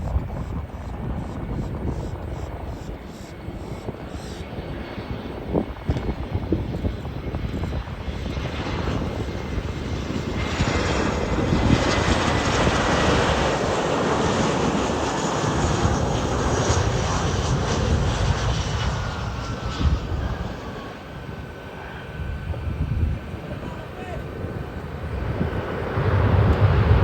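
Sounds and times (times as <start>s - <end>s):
jet engines on landing approach: 0.0s - 27.0s.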